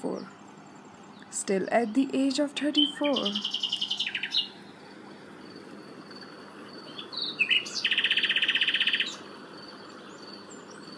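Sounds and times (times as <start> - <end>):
low background hiss: 0.0 - 10.9
songbird chirping and trilling: 0.0 - 10.9.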